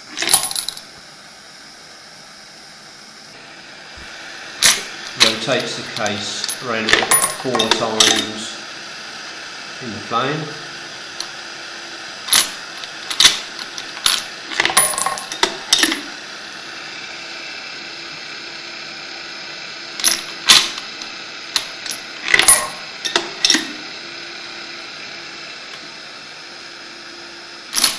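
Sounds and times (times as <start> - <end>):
gas torch flame hissing: 0.0 - 27.9.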